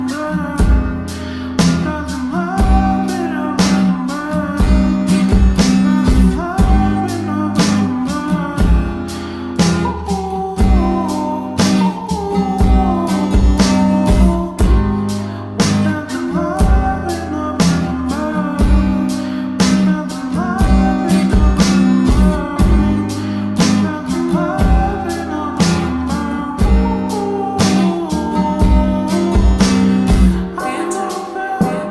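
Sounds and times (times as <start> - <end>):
guitar-led song: 0.0 - 31.9.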